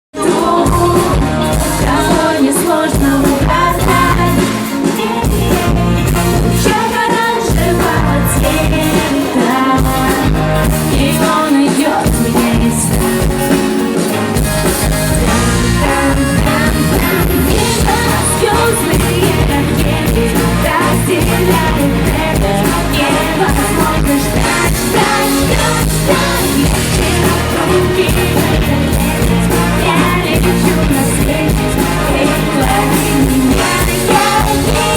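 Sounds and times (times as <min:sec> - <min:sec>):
drums: 0:00.1 - 0:34.9
guitar: 0:00.1 - 0:34.9
woman singing: 0:00.2 - 0:14.4, 0:15.1 - 0:34.9
pop-rock band playing live: 0:00.2 - 0:34.9.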